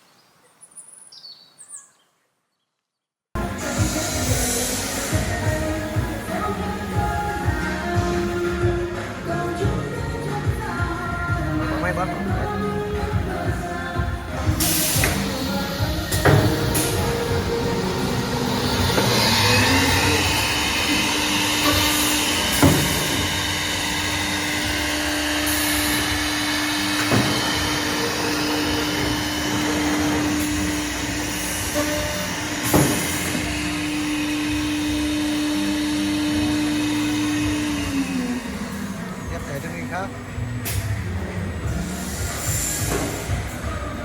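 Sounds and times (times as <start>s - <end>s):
drilling machine motor humming: 3.4s - 44.0s.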